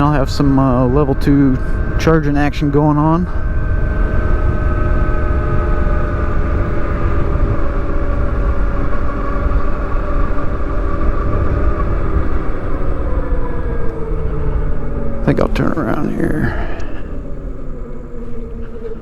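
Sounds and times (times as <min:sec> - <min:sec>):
electric motor whine: 0:00.0 - 0:19.0
wind rushing over microphone: 0:00.0 - 0:19.0.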